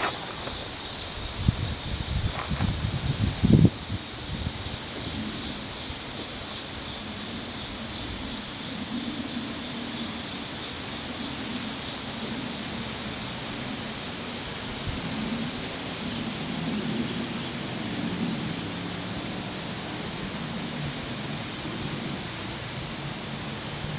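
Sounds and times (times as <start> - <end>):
cicadas buzzing: 0.0 - 23.9.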